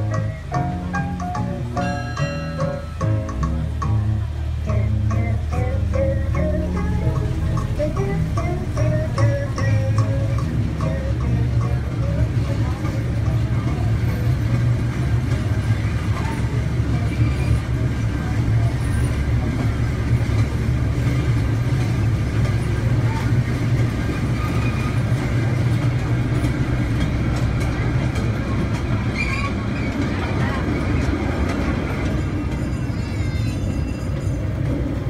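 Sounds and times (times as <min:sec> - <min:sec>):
ride cars rumbling on track: 0:00.0 - 0:35.0.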